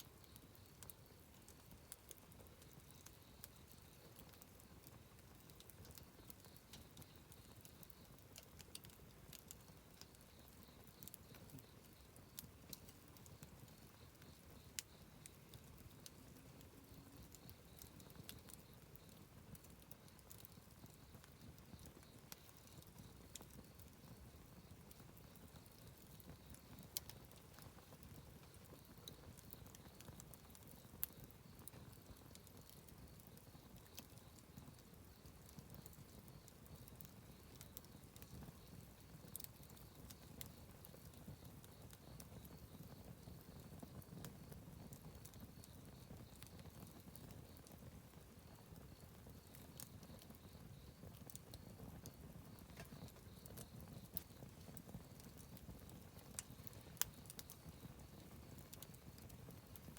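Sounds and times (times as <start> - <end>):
burning wood crackles and pops: 0.0 - 59.9
campfire flame rumble: 0.0 - 59.9.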